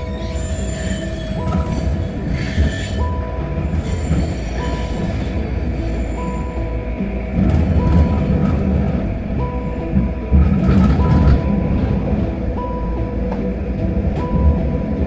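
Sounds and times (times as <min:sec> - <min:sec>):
train car low rumble: 0:00.0 - 0:15.0.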